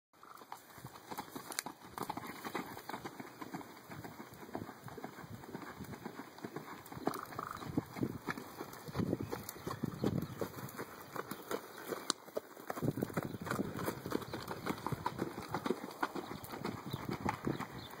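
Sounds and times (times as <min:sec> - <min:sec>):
horse hoofbeats on dirt: 0:00.2 - 0:18.0.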